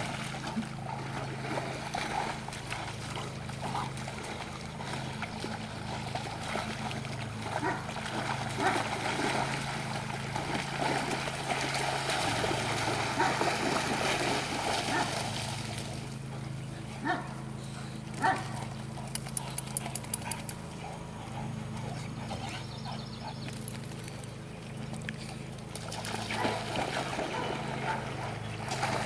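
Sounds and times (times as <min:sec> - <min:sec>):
dogs splashing through water: 0:00.0 - 0:29.0
low engine hum: 0:00.0 - 0:29.0.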